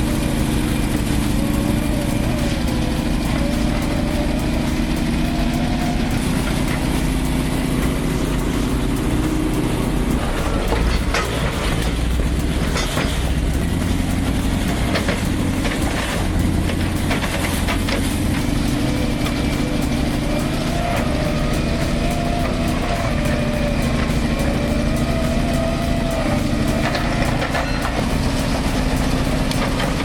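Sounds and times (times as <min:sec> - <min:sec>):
bulldozer diesel engine running: 0:00.0 - 0:30.0
steel tracks clanking: 0:00.0 - 0:30.0.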